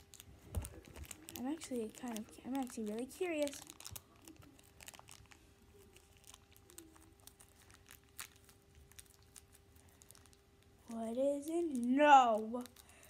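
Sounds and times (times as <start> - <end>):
faint steady hum: 0.0 - 13.0
plastic packaging crinkling and tearing: 0.0 - 13.0.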